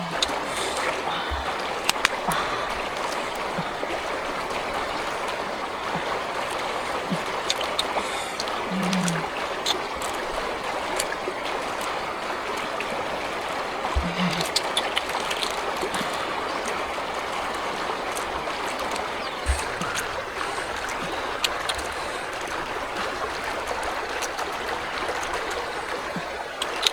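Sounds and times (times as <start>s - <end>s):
stream rushing and trickling: 0.0s - 26.9s.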